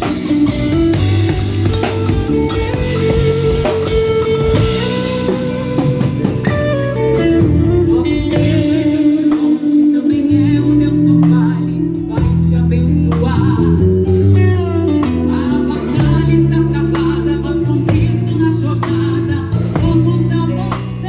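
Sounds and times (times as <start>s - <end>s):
live band playing: 0.0s - 21.0s
person singing long notes: 1.8s - 21.0s.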